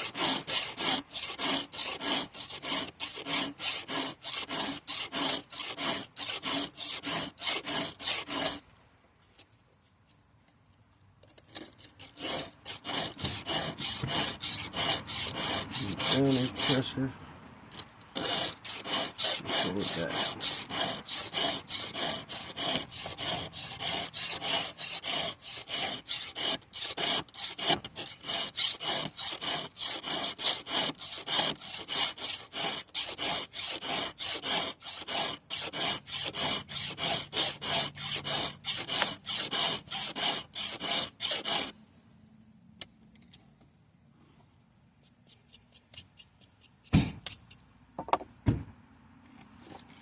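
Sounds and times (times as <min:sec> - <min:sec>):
file rasping on chainsaw chain: 0:00.0 - 0:08.6, 0:11.5 - 0:17.1, 0:18.1 - 0:41.8, 0:45.2 - 0:47.6.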